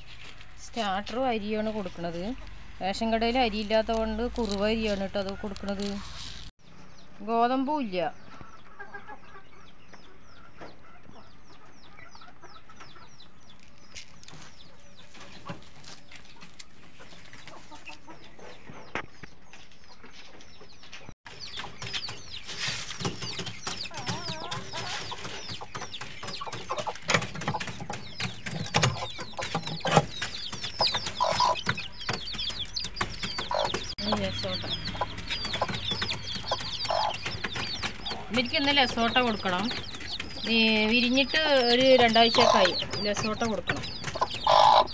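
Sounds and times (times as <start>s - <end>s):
chicks peeping: 0.0s - 44.9s
hens clucking: 0.8s - 6.5s, 8.3s - 13.7s, 14.3s - 19.1s, 21.3s - 44.9s.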